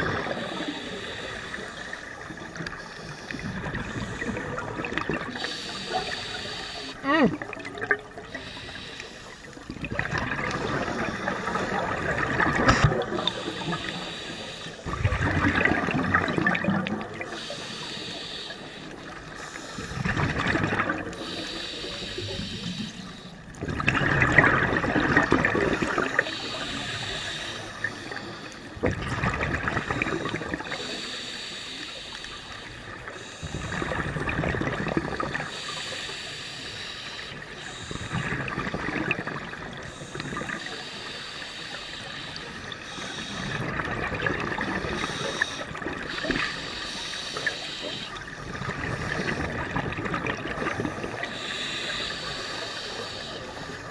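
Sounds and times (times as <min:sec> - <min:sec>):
underwater bubbles rushing: 0:00.0 - 0:31.2, 0:32.0 - 0:53.9.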